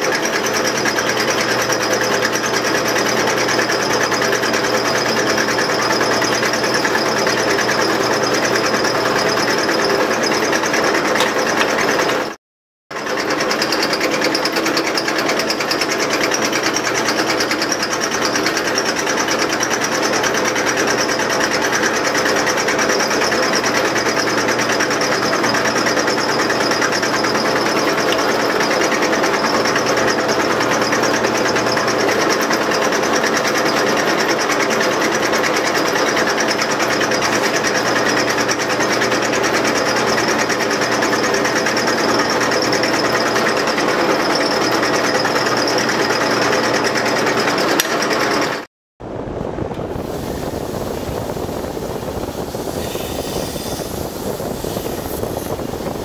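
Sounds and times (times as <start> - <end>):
drill press drilling steel: 0.0 - 12.4, 13.0 - 48.7, 50.0 - 56.0.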